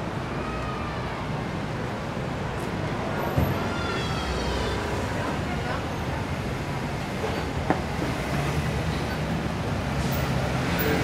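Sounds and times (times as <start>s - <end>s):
faint voices of passers-by: 0.0s - 11.0s
traffic noise: 0.0s - 11.0s.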